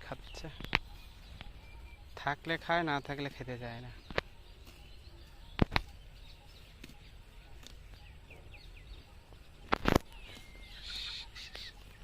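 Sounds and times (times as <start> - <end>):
faint high bird chirps: 0.0 - 12.0
low outdoor background: 0.0 - 12.0.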